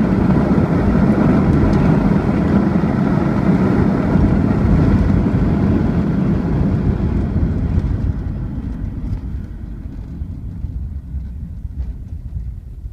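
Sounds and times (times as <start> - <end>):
car engine slowing: 0.0 - 12.9
road noise: 0.0 - 12.9.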